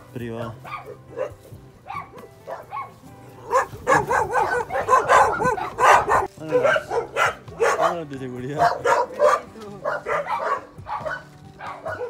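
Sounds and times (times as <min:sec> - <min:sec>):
dog barking: 0:00.6 - 0:12.0.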